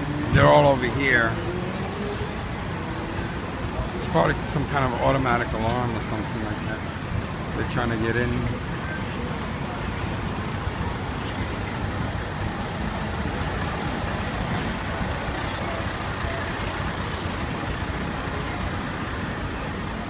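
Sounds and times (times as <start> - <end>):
diesel engine idling: 0.0 - 20.0
street traffic: 0.0 - 20.0.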